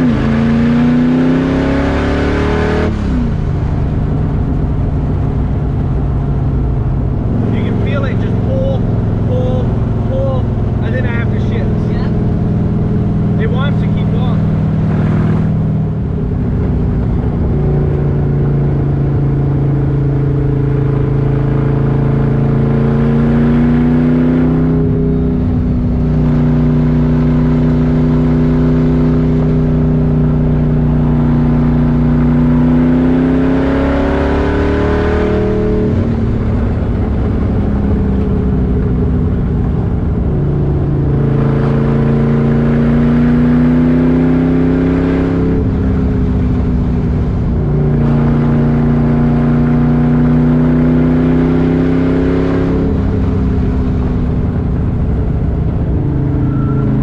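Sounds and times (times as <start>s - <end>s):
car engine revving under load: 0.0s - 57.0s.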